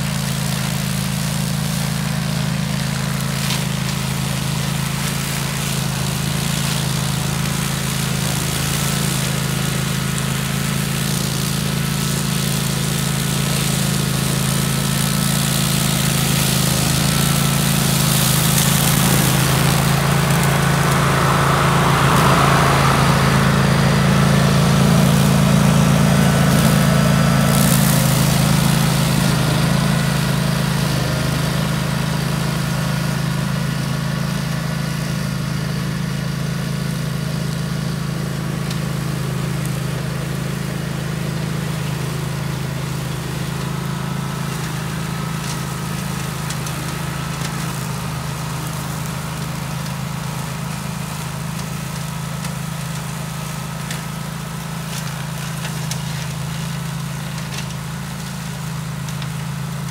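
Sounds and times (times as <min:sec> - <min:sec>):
brush cutter engine running: 0:00.0 - 0:59.9.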